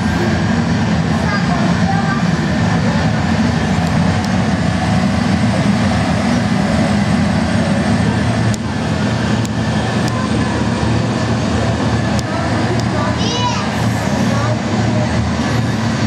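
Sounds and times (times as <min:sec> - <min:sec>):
jet engine roar over loudspeakers: 0:00.0 - 0:16.0.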